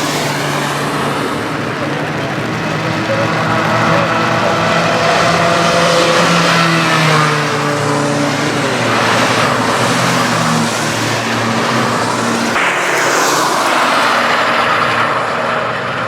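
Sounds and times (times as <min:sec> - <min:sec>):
race car engines running: 0:00.0 - 0:16.0
tyres hissing on wet track: 0:00.0 - 0:16.0.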